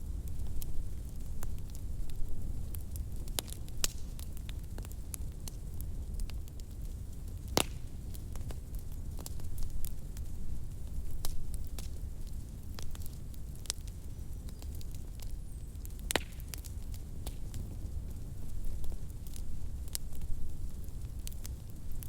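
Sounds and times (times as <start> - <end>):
fireplace fire crackling: 0.0 - 22.0.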